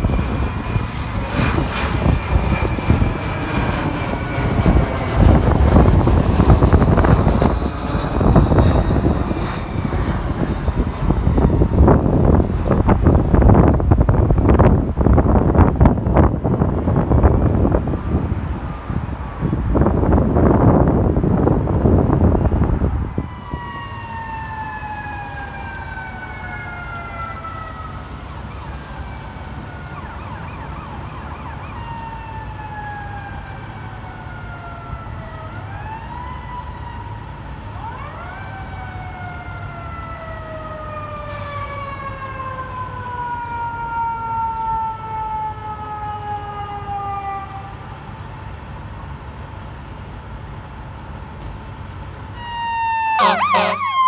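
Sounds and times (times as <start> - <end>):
fire truck siren wailing: 0.0 - 54.0
rumble of engines and traffic: 0.0 - 54.0.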